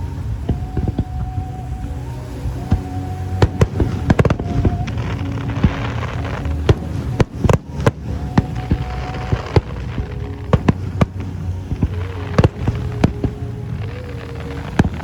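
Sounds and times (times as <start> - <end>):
fireworks crackling: 0.0 - 15.0
steady music: 0.0 - 15.0.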